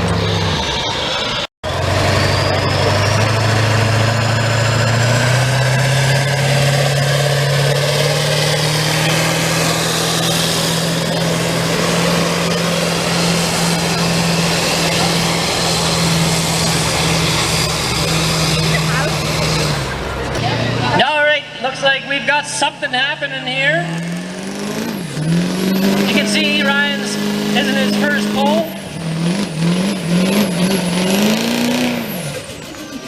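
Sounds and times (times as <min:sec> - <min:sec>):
truck engine working under load: 0:00.0 - 0:33.0.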